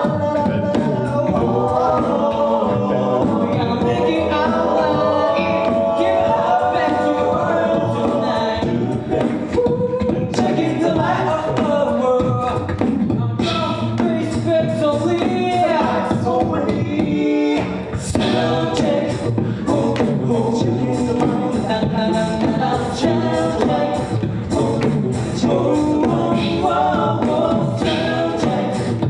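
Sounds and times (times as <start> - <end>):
beatboxed vocal percussion: 0.0 - 29.0
group singing in close harmony: 0.0 - 29.0.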